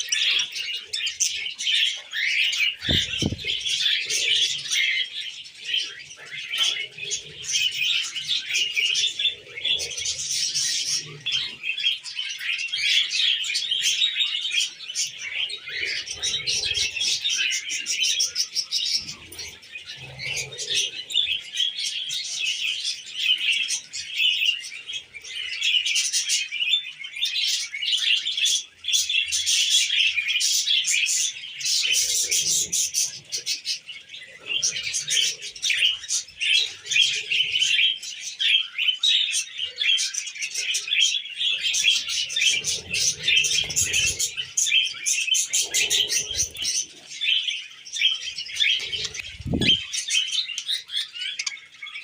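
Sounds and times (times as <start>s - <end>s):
budgerigars chattering and chirping: 0.0s - 52.0s.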